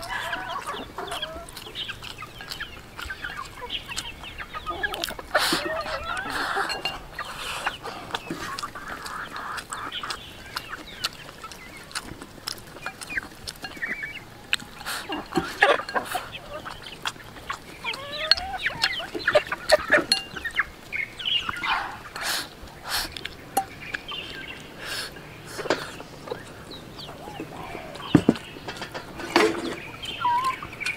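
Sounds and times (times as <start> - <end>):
chewing: 0.0 - 30.9
chickens clucking: 0.0 - 30.9.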